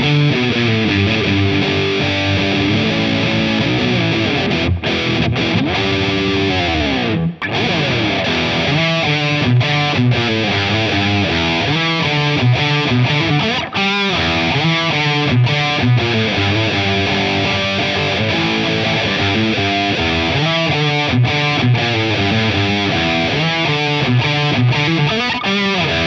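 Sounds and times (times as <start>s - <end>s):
overdriven electric guitar: 0.0s - 26.0s.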